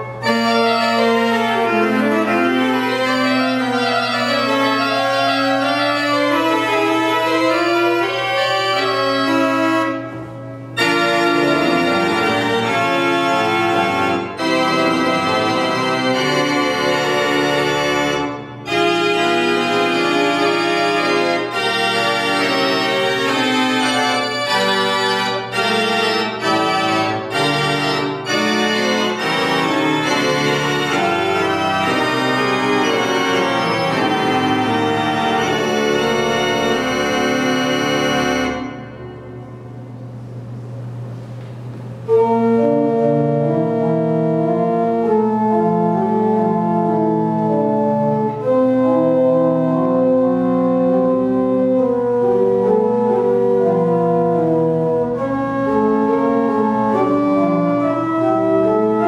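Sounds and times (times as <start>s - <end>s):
low organ bass note: 0.0s - 59.0s
pipe organ chords: 0.0s - 59.0s.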